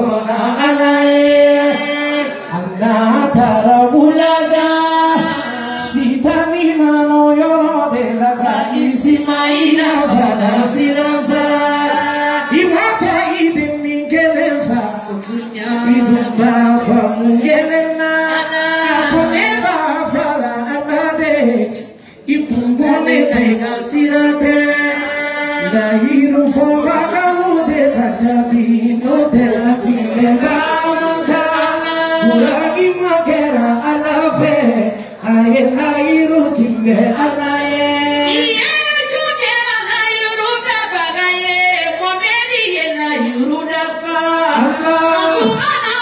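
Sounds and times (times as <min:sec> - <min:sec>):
man and woman singing: 0:00.0 - 0:46.0.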